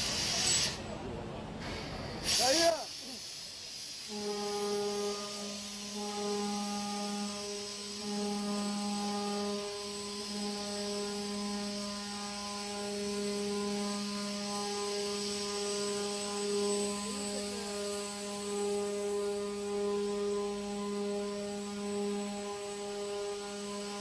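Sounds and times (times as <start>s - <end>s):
hiss: 0.0s - 1.0s, 1.6s - 24.0s
steady mechanical hum: 0.0s - 24.0s.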